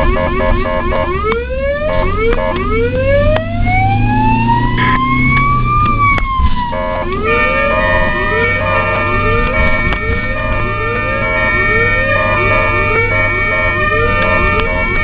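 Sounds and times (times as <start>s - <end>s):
ambulance siren: 0.0s - 15.0s.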